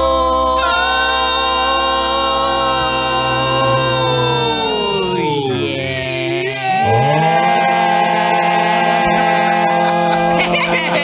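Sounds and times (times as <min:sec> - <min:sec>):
held chord with steady bass: 0:00.0 - 0:11.0.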